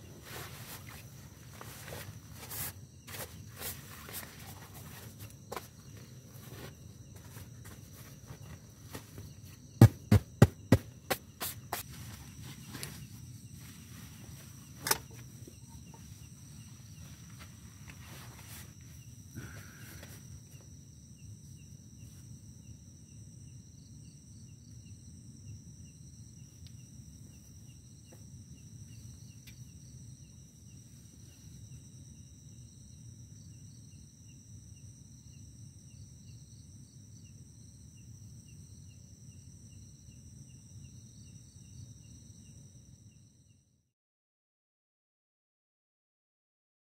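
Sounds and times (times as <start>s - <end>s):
insects calling: 0.0s - 43.6s.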